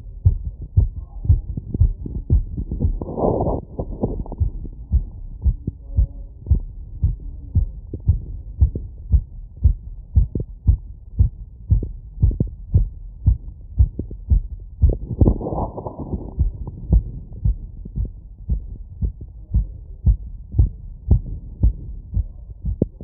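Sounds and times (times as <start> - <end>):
fast heartbeat thumps: 0.0 - 23.0.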